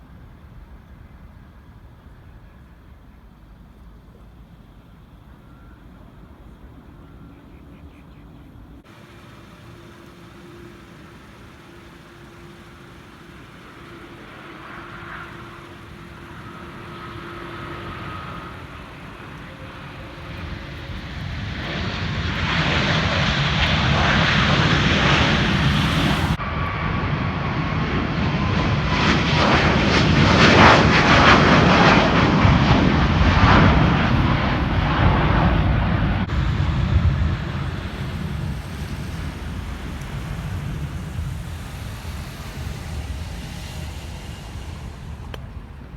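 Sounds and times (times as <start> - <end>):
jet engines passing close: 0.0 - 45.9.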